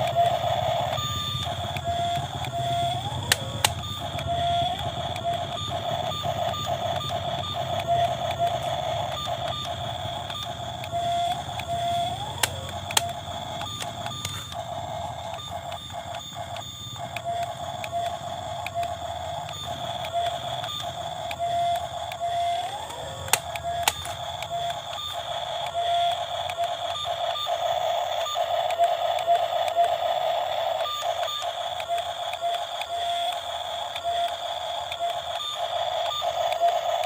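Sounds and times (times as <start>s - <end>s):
electric motor whining: 0.0s - 37.0s
sharp clicks: 0.0s - 37.0s.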